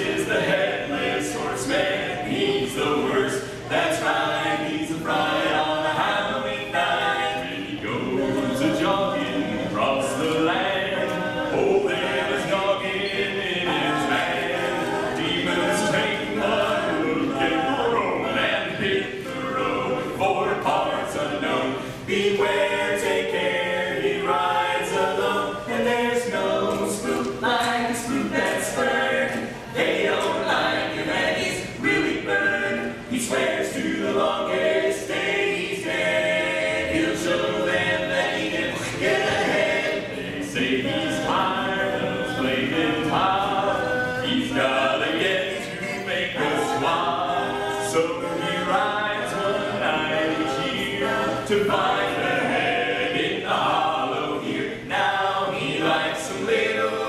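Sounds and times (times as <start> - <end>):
men singing a cappella harmony: 0.0 - 57.0.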